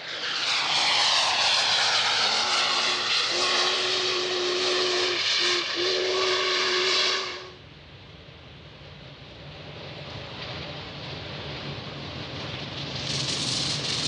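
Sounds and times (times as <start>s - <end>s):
steam train rushing past: 0.0s - 14.0s.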